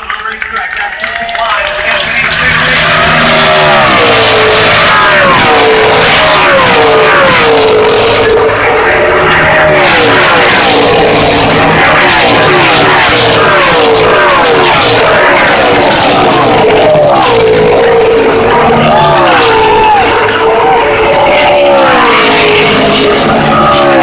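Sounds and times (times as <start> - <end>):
race trucks passing at speed: 0.0 - 24.0.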